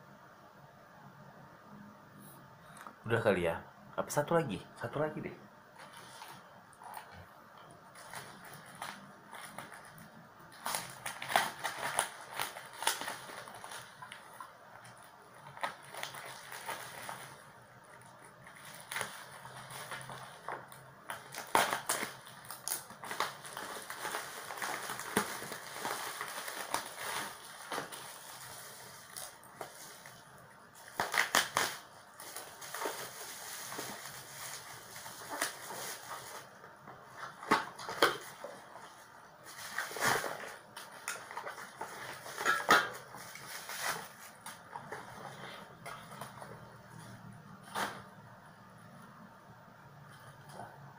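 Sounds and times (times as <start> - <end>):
packaging crinkling and rustling: 5.7 - 48.3.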